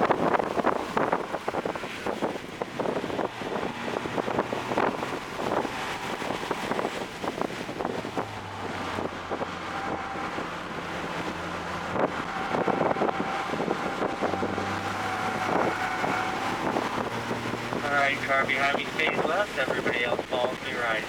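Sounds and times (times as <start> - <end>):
car engine running at speed: 0.0 - 21.0
wind buffeting on microphone: 0.0 - 21.0.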